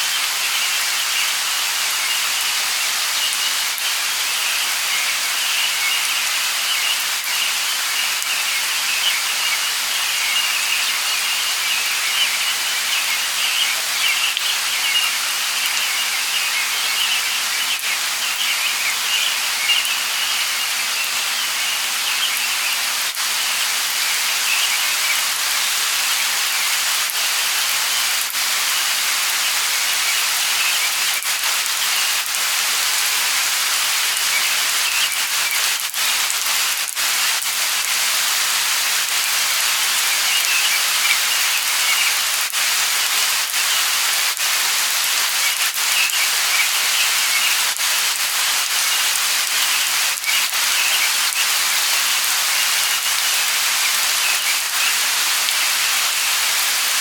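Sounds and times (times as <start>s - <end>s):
light rain patter: 0.0s - 57.0s
raindrops ticking: 0.0s - 57.0s.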